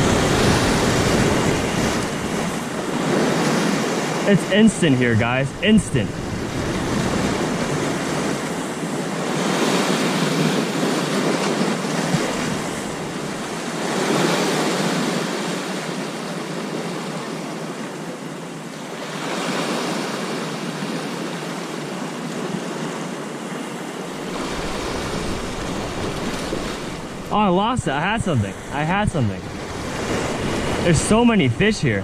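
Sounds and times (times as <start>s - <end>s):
surf washing against rocks: 0.0s - 32.0s.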